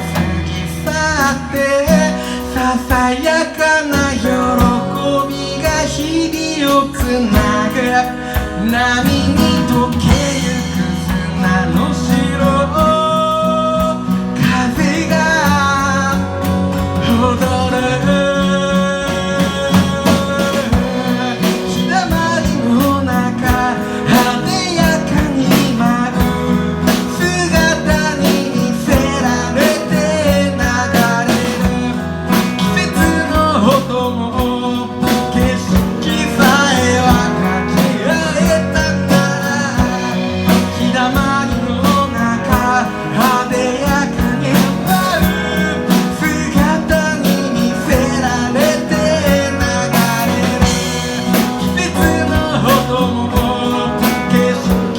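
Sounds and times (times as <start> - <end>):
acoustic band music with guitar: 0.0 - 54.9.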